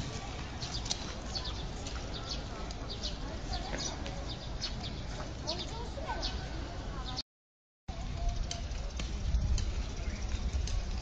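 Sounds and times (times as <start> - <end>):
distant voices: 0.0 - 7.2, 7.9 - 11.0
street rumble: 0.0 - 7.2, 7.9 - 11.0.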